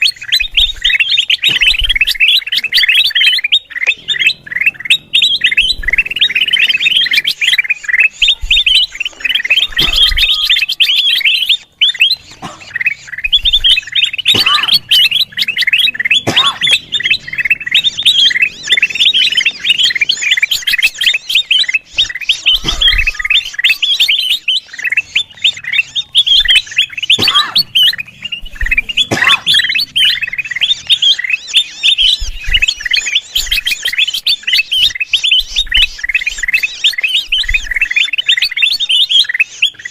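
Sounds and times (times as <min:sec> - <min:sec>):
bulbuls chirping rapidly: 0:00.0 - 0:39.9.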